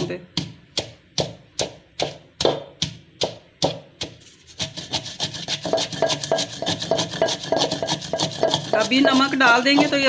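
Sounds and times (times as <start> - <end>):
pestle grinding strokes: 0.0 - 10.0
pestle pounding in clay mortar: 0.0 - 10.0.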